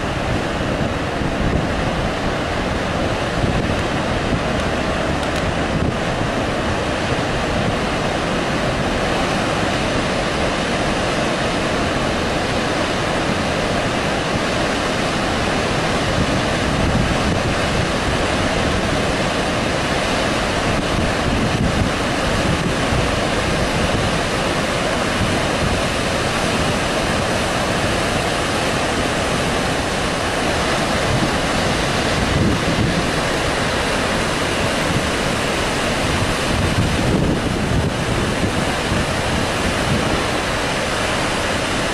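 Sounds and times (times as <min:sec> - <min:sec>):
loud rush of water: 0:00.0 - 0:41.9.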